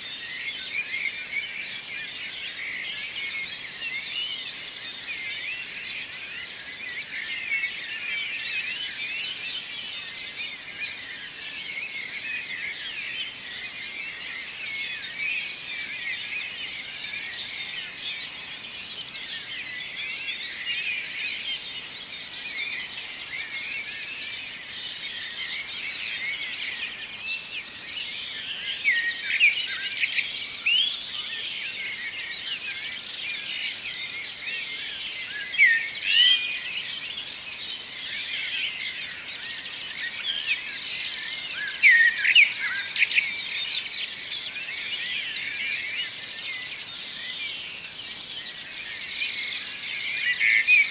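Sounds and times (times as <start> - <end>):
songbirds singing and chirping: 0.0 - 50.9.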